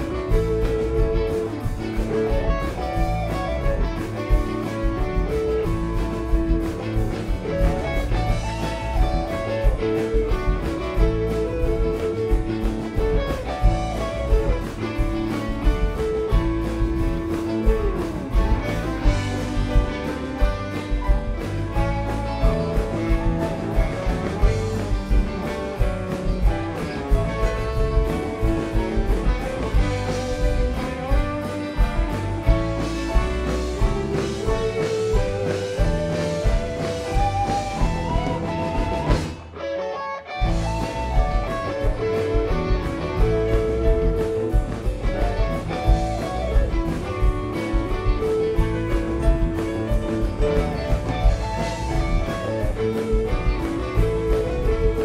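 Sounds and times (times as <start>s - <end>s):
bass: 0.0s - 39.6s, 40.4s - 55.0s
drum kit beat: 0.0s - 39.6s, 40.4s - 55.0s
organ: 0.0s - 39.6s, 40.4s - 55.0s
electric guitars: 0.0s - 55.0s.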